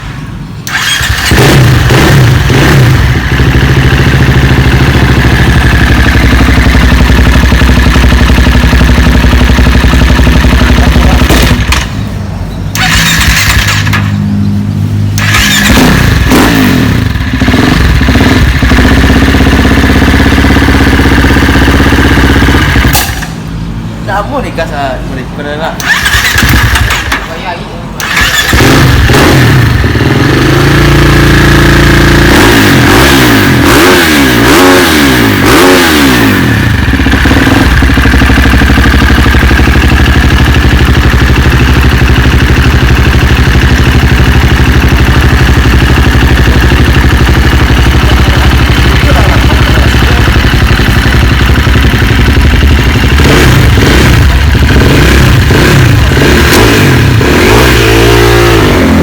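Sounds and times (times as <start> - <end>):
two-stroke engine revving: 0.0 - 24.8, 25.6 - 59.0.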